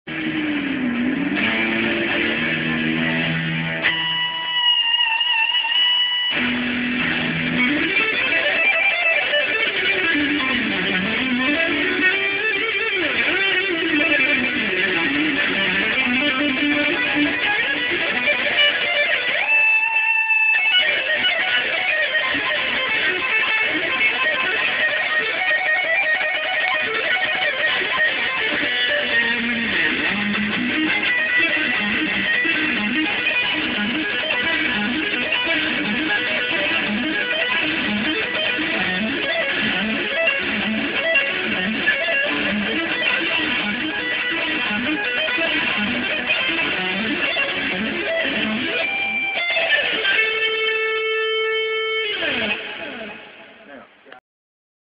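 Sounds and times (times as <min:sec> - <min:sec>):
electric guitar playing: 0:00.0 - 0:54.2.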